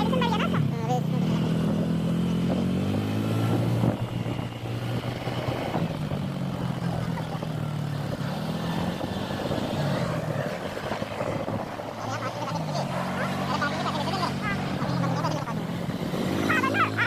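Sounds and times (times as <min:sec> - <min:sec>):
road noise: 0:00.0 - 0:17.0
vehicle engine humming: 0:00.0 - 0:17.0.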